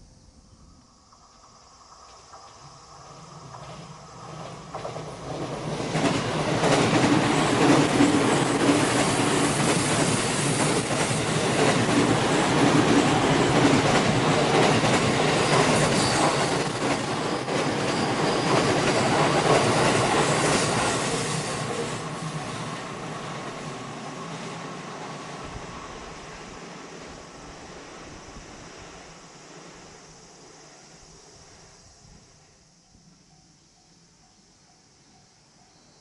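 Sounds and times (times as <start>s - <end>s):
electric train passing: 0.0s - 36.0s.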